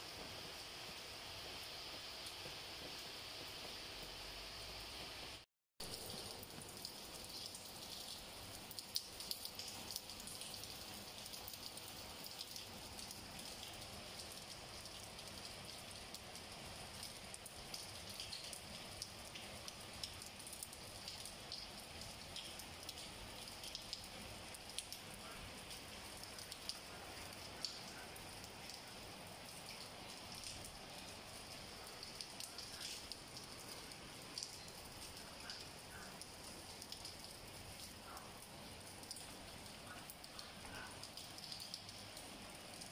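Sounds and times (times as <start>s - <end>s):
rain on stone tiles: 0.0s - 42.9s.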